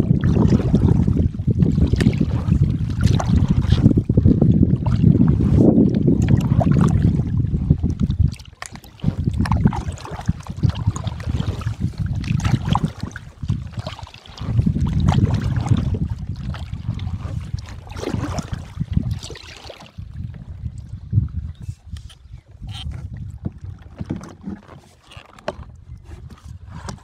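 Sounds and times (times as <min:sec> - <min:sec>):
water lapping at hull: 0:00.0 - 0:27.0
wind rumble on microphone: 0:00.0 - 0:27.0
paddle splashing and dripping: 0:00.1 - 0:27.0.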